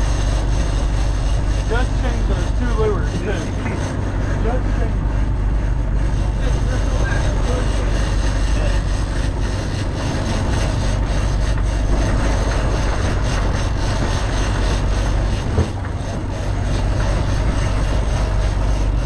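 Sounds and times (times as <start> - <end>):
boat engine droning: 0.0 - 19.0
boat wake washing: 0.0 - 19.0.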